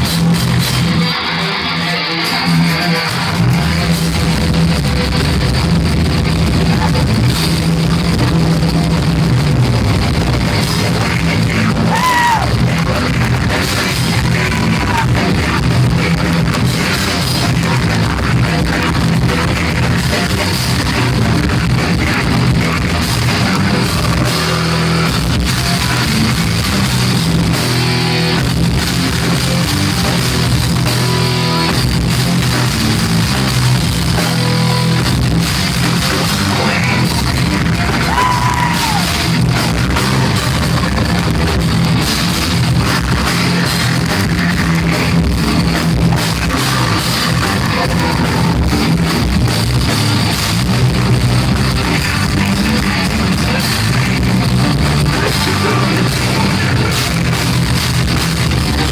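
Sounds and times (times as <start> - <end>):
thrash metal band playing: 0.0 - 58.9.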